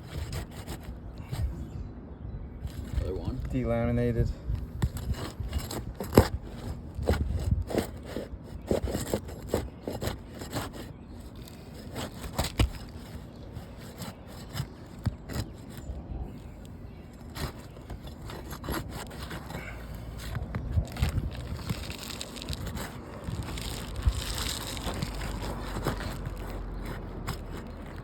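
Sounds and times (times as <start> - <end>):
roof shingles scraping: 0.0 - 1.4, 4.9 - 28.0.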